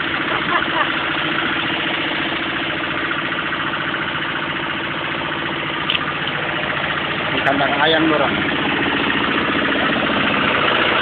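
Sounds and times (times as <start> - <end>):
engine driving a compressor: 0.0 - 11.0.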